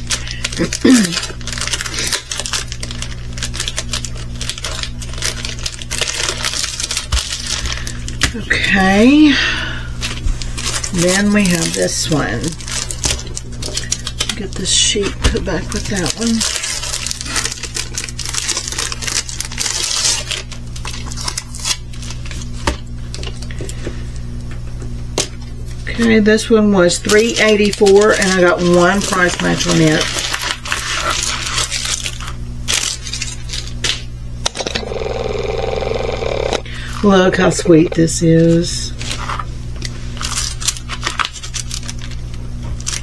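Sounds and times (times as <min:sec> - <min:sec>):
plastic crinkling: 0:00.0 - 0:09.3, 0:10.0 - 0:23.8, 0:26.8 - 0:43.0.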